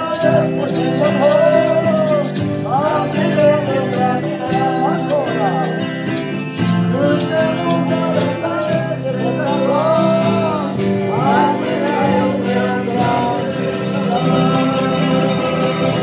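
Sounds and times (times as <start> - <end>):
person singing: 0.0 - 16.0
strummed acoustic guitars: 0.0 - 16.0.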